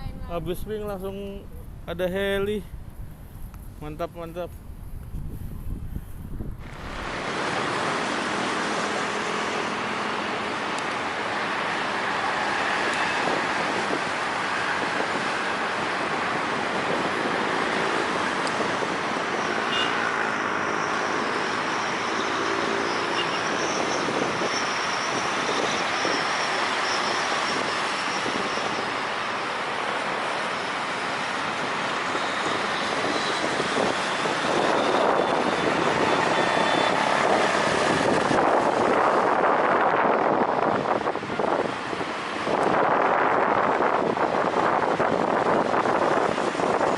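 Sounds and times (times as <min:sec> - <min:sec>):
wind on microphone: 0:00.0 - 0:21.7, 0:22.7 - 0:29.4, 0:30.9 - 0:46.9
helicopter rotor and turbine: 0:04.7 - 0:46.9.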